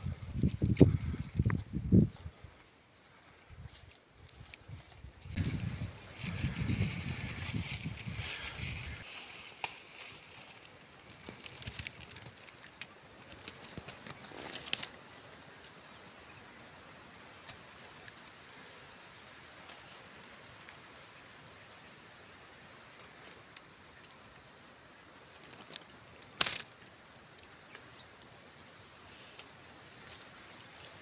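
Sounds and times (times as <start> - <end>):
rustling of dry leaf litter: 0.0 - 31.0.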